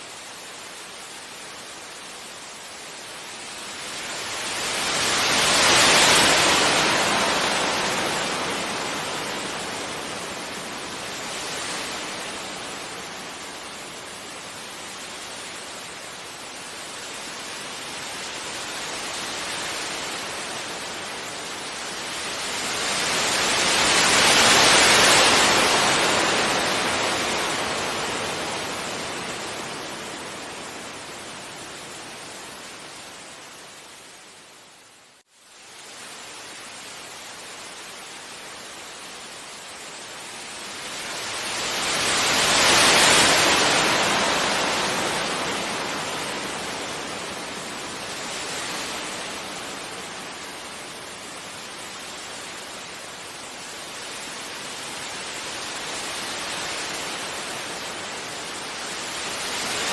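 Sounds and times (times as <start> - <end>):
sea waves breaking on beach: 0.0 - 33.9, 35.7 - 59.9.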